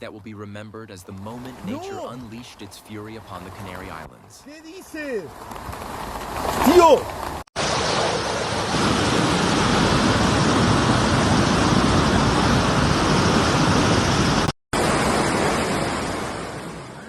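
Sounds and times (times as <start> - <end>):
rushing floodwater roar: 1.1 - 3.8, 5.9 - 17.0.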